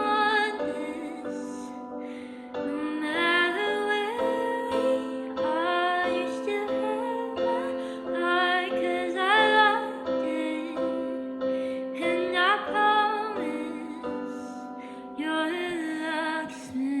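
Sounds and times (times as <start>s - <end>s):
digital piano accompaniment: 0.0s - 17.0s
woman singing: 0.0s - 17.0s.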